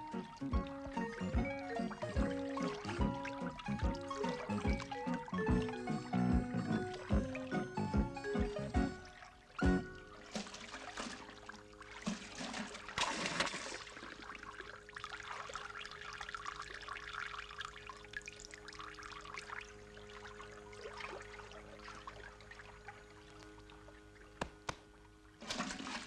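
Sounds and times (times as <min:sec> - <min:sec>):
water running and trickling: 0:00.0 - 0:24.4
faint steady hum: 0:00.0 - 0:26.0.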